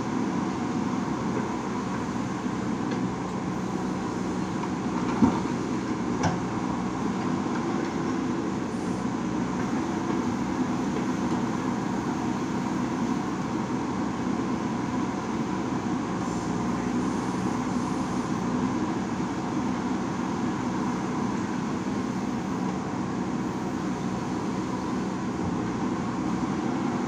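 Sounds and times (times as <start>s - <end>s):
diesel engine under load: 0.0s - 27.0s.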